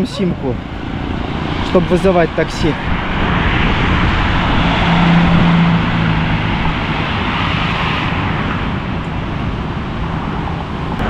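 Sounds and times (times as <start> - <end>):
street traffic: 0.0 - 11.0
vehicle engine passing: 0.0 - 11.0.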